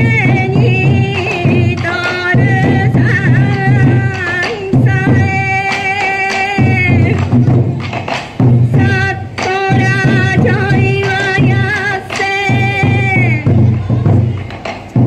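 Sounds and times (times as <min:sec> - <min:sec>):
taiko drums beating: 0:00.0 - 0:15.0.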